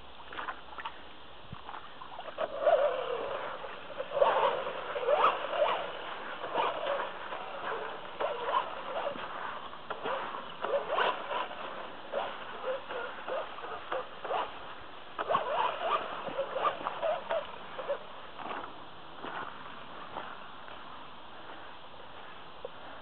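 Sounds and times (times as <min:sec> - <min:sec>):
water splashing: 0:00.0 - 0:20.4
gravel crunching: 0:01.6 - 0:23.0.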